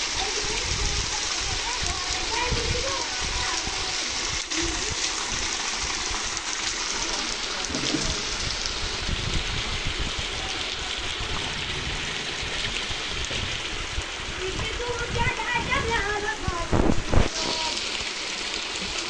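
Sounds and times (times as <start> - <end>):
steady rain falling: 0.0 - 19.0
water pouring off a roof: 0.0 - 19.0.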